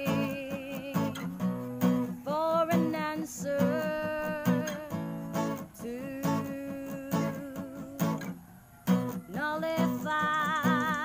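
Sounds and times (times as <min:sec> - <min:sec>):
person singing: 0:00.0 - 0:11.0
strummed guitar: 0:00.0 - 0:11.0.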